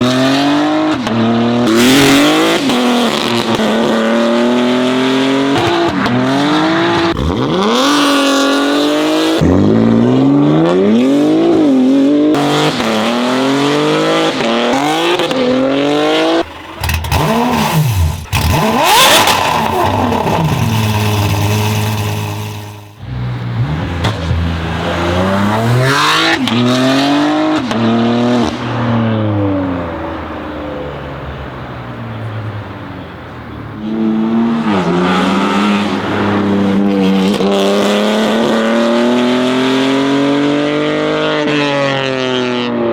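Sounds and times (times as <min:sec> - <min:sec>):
car engines revving and accelerating: 0:00.0 - 0:42.9.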